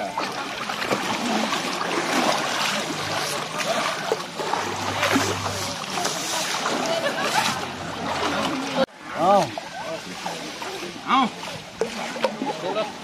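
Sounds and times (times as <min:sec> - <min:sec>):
water splashing from buckets: 0:00.0 - 0:13.0.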